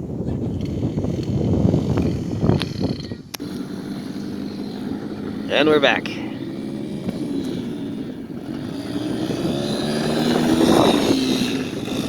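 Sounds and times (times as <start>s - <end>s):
vehicle engine revving: 0.2s - 12.0s.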